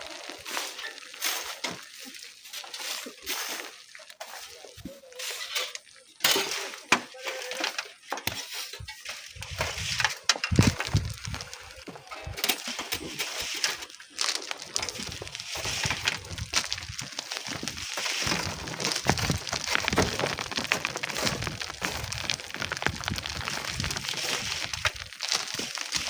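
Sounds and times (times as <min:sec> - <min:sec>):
sand and stones being dug by hand: 0:00.0 - 0:26.0.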